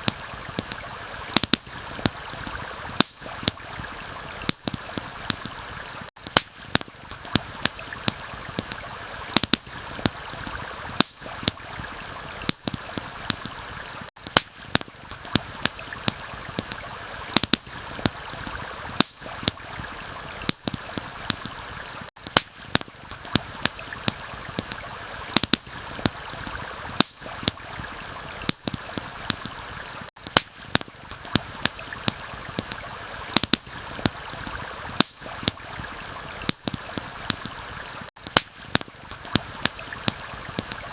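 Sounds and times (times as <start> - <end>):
campfire crackling and popping: 0.0 - 40.9
running water rushing: 0.0 - 40.9.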